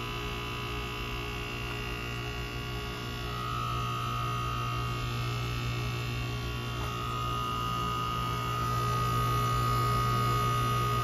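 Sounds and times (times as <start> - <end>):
heat pump low hum: 0.0 - 11.0.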